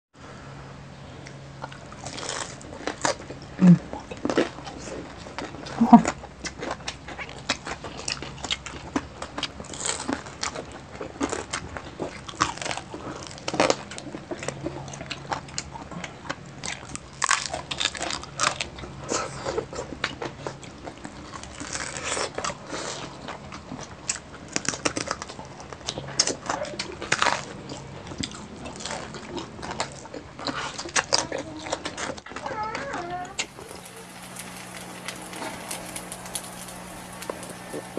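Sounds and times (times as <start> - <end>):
people chewing: 0.2 - 37.9
crunching crispy skin: 1.3 - 37.9.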